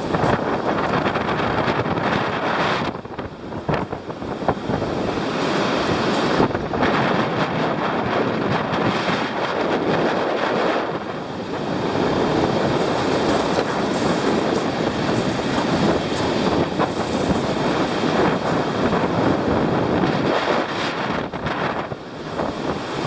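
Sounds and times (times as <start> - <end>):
surf rushing: 0.0 - 23.0
wind buffeting microphone: 0.0 - 23.0.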